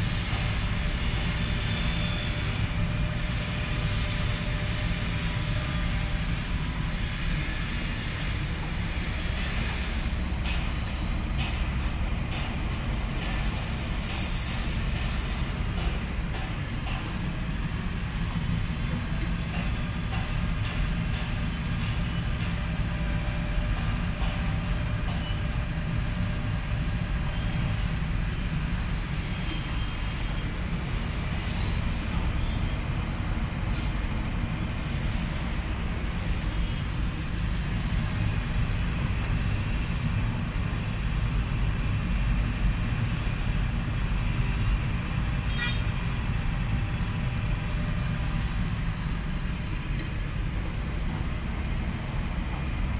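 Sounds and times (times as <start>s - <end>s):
deep diesel rumble: 0.0s - 52.9s.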